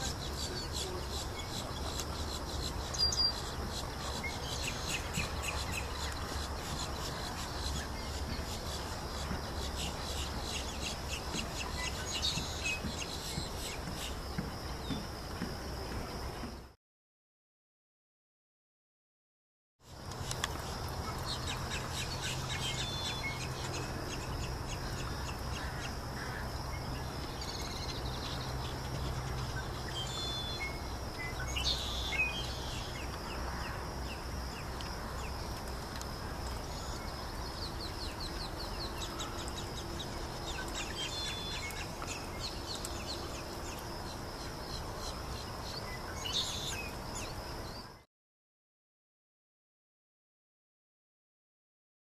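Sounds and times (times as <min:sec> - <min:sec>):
wild birds chirping: 0:00.0 - 0:16.7, 0:19.9 - 0:48.0.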